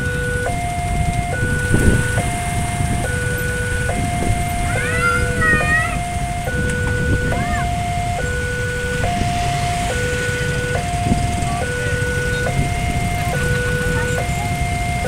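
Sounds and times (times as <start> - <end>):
low traffic rumble: 0.0 - 15.0
two-tone crossing alarm: 0.0 - 15.0.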